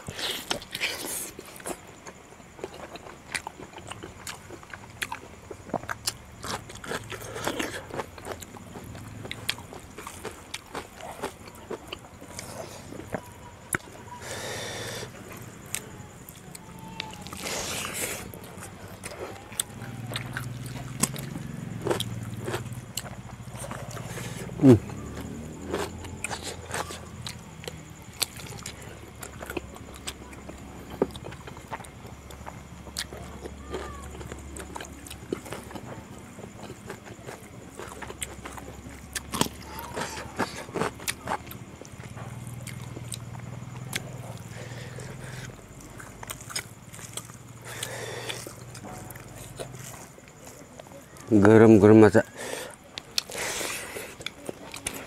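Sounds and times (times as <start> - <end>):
wet chewing and biting: 0.0 - 51.3, 52.2 - 55.0.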